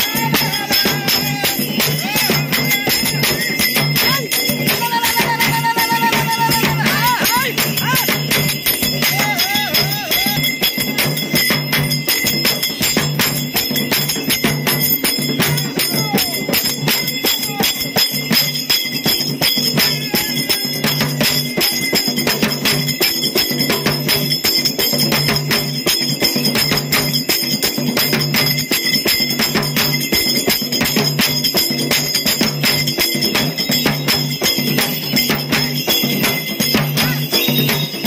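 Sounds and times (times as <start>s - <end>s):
bright metallic jingling: 0.0s - 38.0s.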